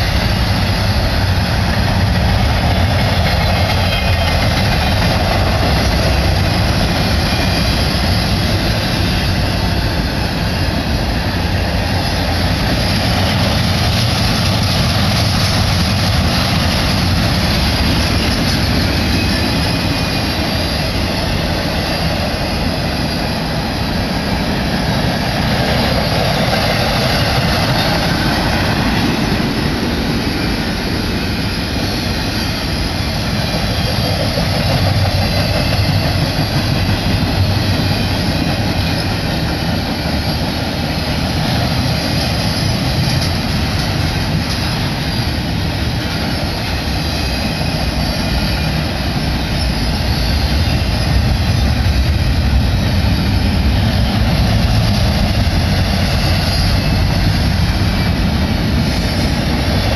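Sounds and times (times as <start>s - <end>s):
steel train wheels rumbling on rail: 0.0s - 59.9s.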